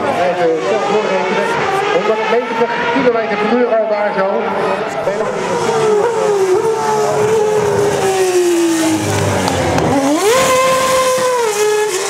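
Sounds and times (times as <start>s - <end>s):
race car engine: 0.0s - 12.0s.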